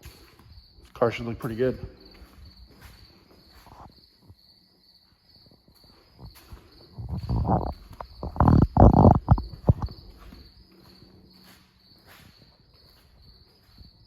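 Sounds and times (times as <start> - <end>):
knocks and shuffling: 0.0 - 4.4, 5.4 - 14.0
crickets chirping: 0.0 - 14.0.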